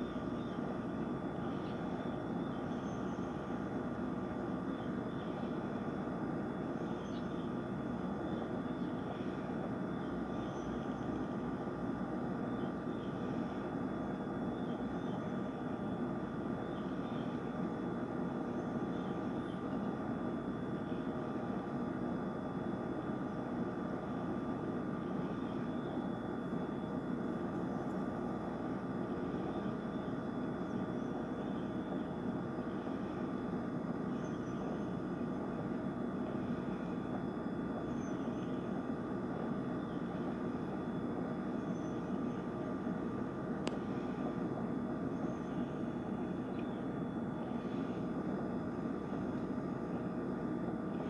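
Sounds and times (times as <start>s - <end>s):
low background hum with tones: 0.0s - 51.0s.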